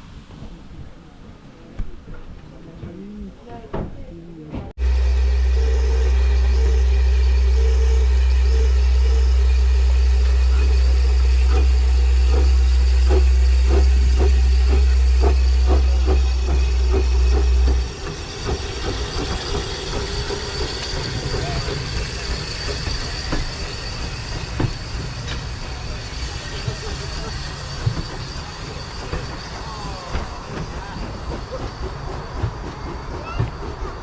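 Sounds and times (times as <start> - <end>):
train rumbling: 0.0 - 34.0
steam hiss: 4.8 - 34.0.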